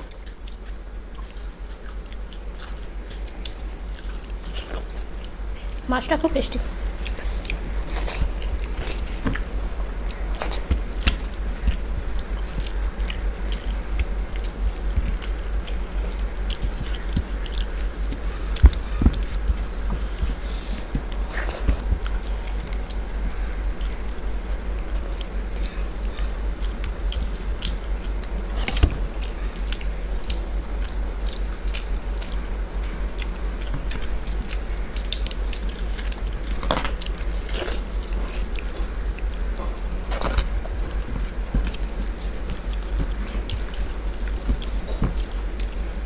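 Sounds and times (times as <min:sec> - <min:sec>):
people chewing food: 0:00.0 - 0:46.0
steady low hum: 0:00.0 - 0:46.0.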